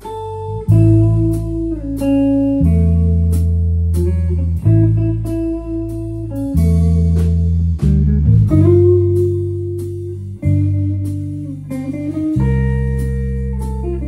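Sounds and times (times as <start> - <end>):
deep bass notes: 0.0 - 14.0
electric guitar chords: 0.0 - 14.0.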